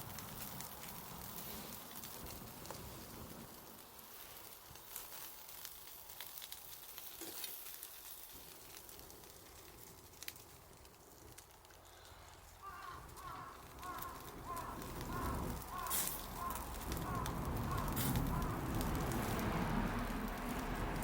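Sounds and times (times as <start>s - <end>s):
campfire crackling and popping: 0.0s - 21.0s
food sizzling on a grill: 0.0s - 21.0s.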